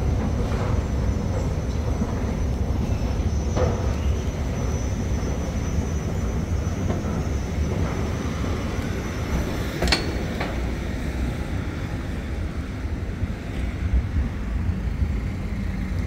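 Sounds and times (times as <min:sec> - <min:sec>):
passing traffic rumble: 0:00.0 - 0:16.0.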